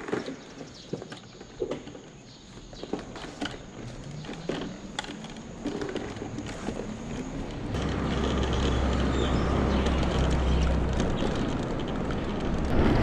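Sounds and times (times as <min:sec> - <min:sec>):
scooter road rumble: 0:00.0 - 0:13.0.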